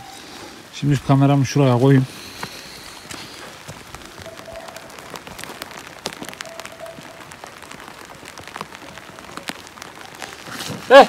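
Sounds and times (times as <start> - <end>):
light rain drops ticking: 0.0 - 11.0.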